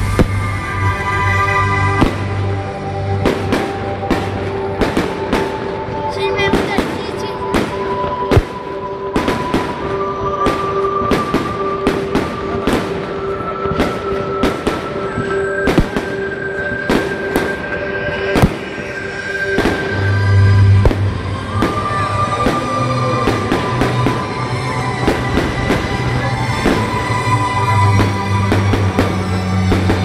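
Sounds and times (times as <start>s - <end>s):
music with heavy bass: 0.0s - 8.6s, 9.2s - 30.0s
fireworks bangs: 1.8s - 2.4s, 3.2s - 30.0s.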